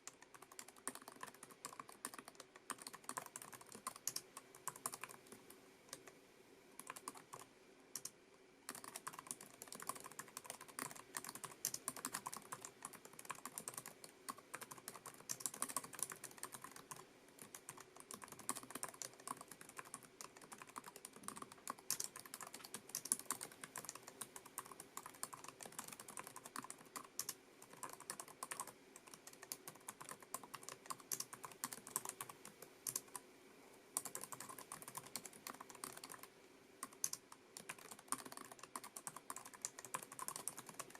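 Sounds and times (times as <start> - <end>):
keyboard typing clicks: 0.0 - 6.1, 6.8 - 33.2, 34.0 - 40.9.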